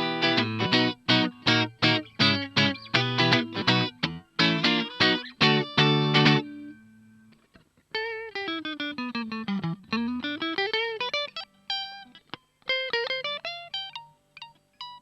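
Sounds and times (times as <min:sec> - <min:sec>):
electric guitar lead lines: 0:00.0 - 0:15.0.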